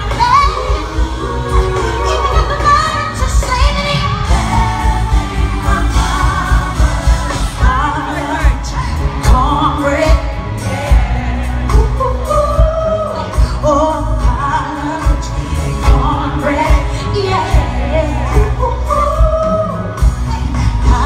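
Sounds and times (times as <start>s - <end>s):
live band music: 0.0s - 21.0s.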